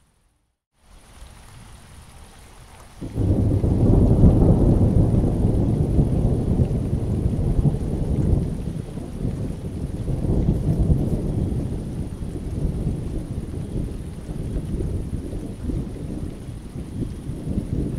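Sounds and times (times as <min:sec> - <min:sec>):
rain on wet paving: 0:00.8 - 0:17.9
low thunder rumble: 0:03.0 - 0:17.9.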